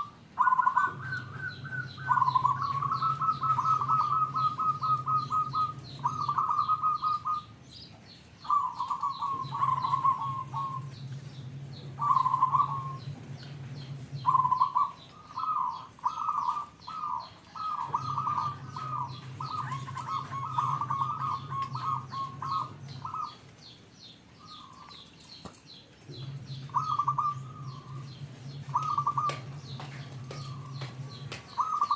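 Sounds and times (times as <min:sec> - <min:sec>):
dove trilled cooing: 0:00.0 - 0:07.6, 0:08.4 - 0:23.8, 0:24.4 - 0:25.2, 0:26.1 - 0:31.9
small birds chirping: 0:00.0 - 0:31.9.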